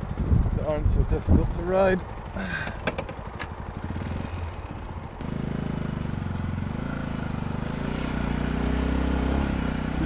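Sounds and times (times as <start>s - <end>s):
dirt bike engine chugging: 0.0s - 10.0s.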